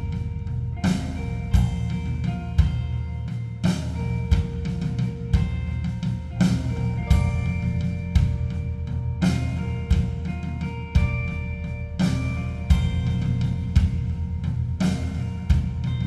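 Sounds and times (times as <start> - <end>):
bass line: 0.0 - 16.0
drum kit playing: 0.0 - 16.0
held higher notes: 0.0 - 16.0.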